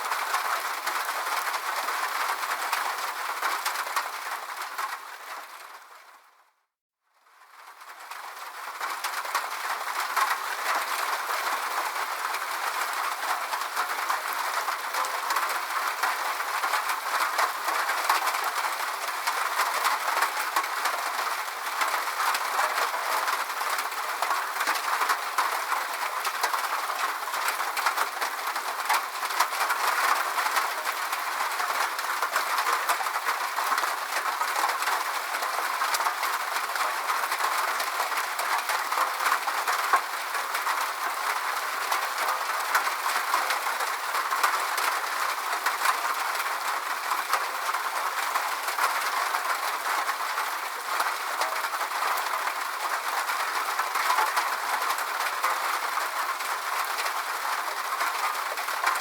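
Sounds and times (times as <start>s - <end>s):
steady rain: 0.0s - 6.6s, 7.2s - 59.0s.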